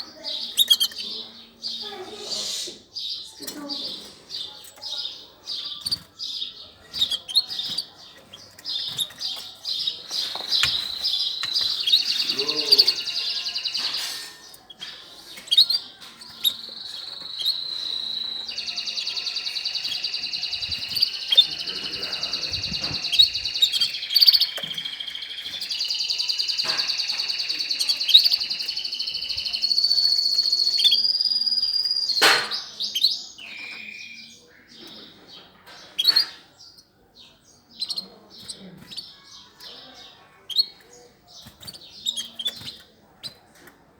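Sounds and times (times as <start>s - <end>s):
songbirds trilling and chirping: 0.0s - 43.9s.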